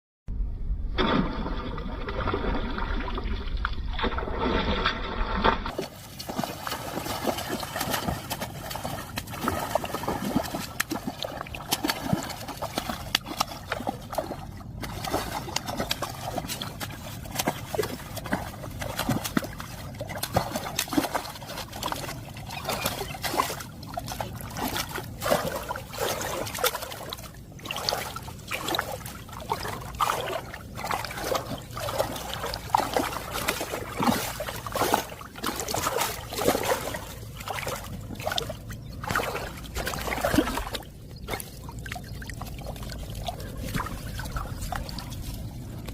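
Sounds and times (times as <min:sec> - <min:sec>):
water splashing and trickling: 0:00.9 - 0:45.9
water drips: 0:05.7 - 0:45.9.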